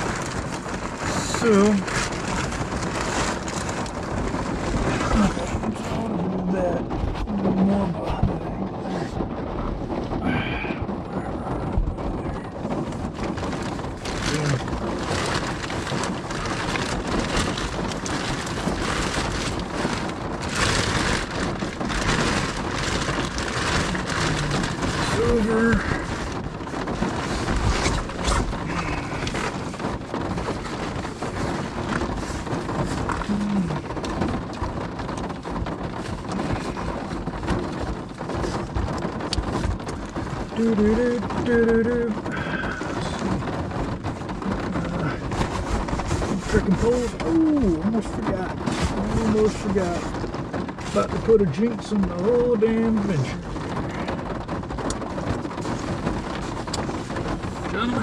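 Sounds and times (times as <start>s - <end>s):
gear rustling and knocking: 0.0s - 58.0s
rain on car roof: 0.0s - 58.0s.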